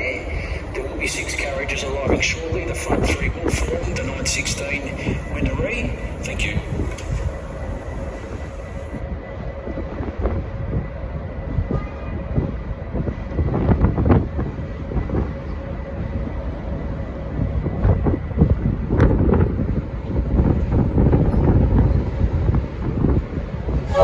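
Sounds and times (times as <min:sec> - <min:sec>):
train rumbling on track: 0:00.0 - 0:24.0.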